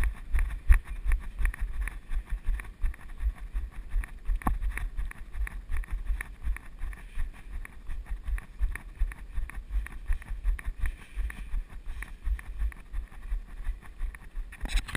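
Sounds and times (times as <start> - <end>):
running footsteps on pavement: 0.0 - 14.6.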